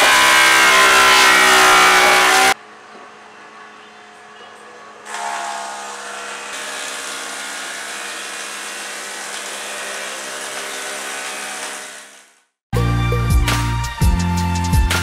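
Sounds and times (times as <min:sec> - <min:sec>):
woodworking machinery humming: 0:00.0 - 0:12.6.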